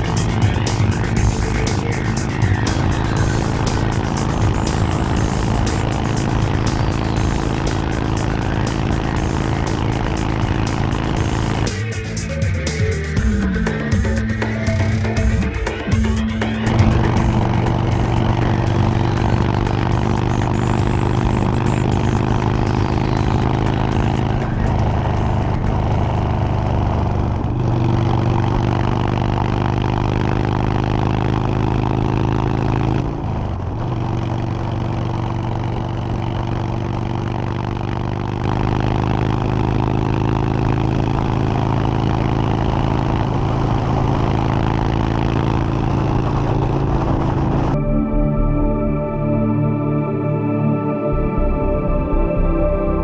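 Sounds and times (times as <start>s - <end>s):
motorcycle engine running: 0.0s - 47.8s.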